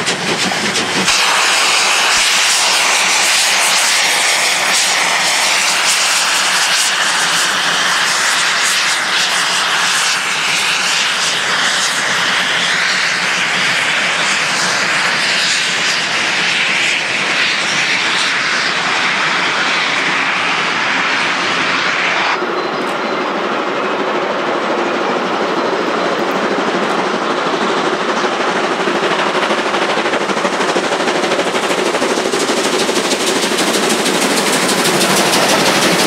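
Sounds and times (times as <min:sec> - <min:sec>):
steam locomotives exhaust beats: 0:00.0 - 0:36.0.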